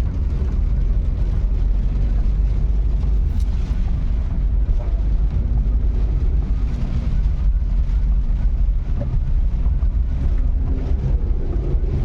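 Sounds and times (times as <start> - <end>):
moving vehicle rumble: 0.0 - 12.0
wind buffeting microphone: 0.0 - 12.0.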